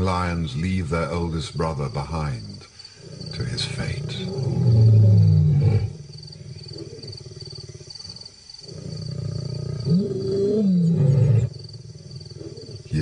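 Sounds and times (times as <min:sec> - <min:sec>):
lions growling and snarling: 0:02.4 - 0:13.0.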